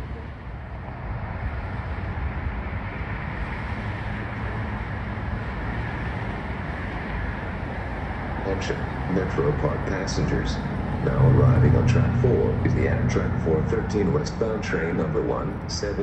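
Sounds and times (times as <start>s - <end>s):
distant train rumble and hiss: 0.0s - 16.0s.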